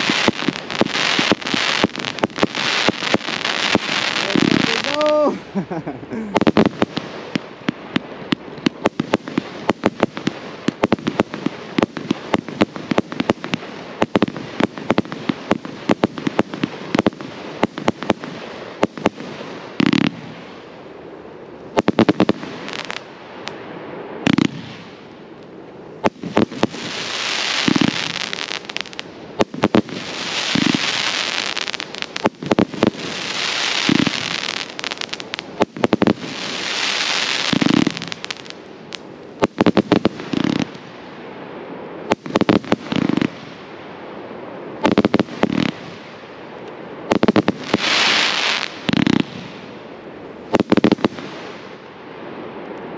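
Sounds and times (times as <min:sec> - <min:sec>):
firework booms: 0:00.0 - 0:21.0, 0:21.7 - 0:25.3, 0:26.0 - 0:52.2
firework barrage: 0:00.0 - 0:52.9
firework hiss: 0:00.0 - 0:52.9.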